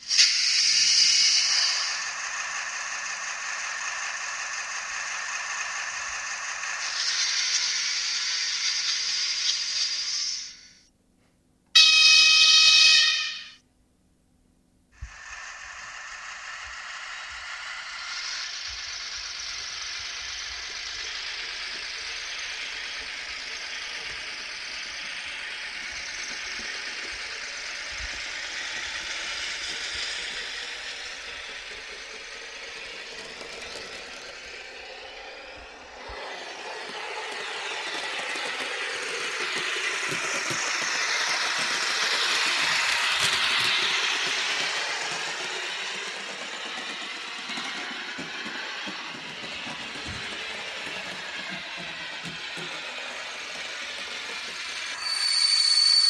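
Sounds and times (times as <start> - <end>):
model train rattling on track: 0.0 - 10.8, 15.0 - 56.0.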